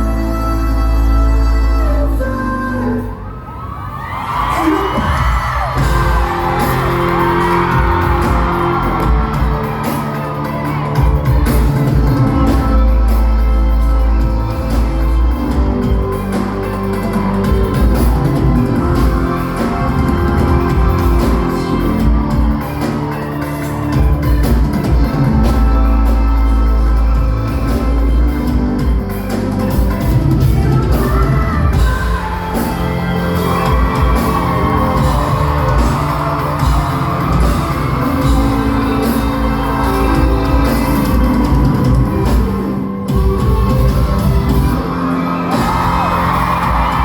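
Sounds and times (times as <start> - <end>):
live band music: 0.0 - 3.5, 4.3 - 47.0
audience shouting and whooping: 3.0 - 47.0.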